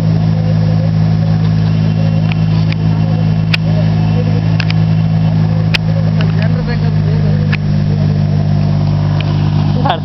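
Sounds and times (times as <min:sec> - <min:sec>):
tractor engine humming: 0:00.0 - 0:10.0.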